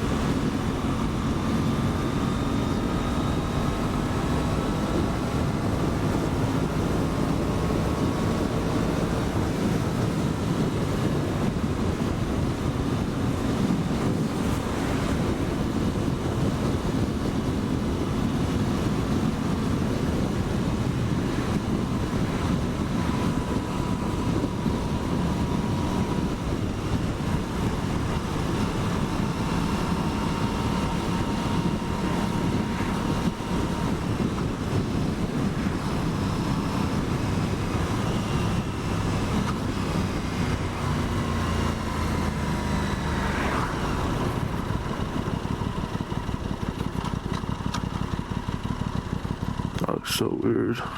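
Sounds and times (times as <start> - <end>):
motorcycle engine riding: 0.0 - 50.9
wind rush on microphone: 0.0 - 50.9.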